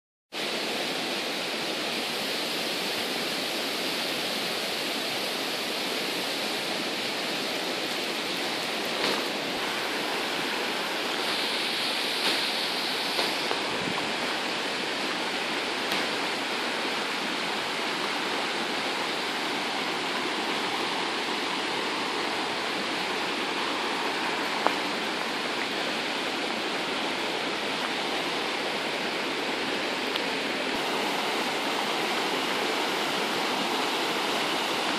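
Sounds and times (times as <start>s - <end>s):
river rushing: 0.4s - 34.9s.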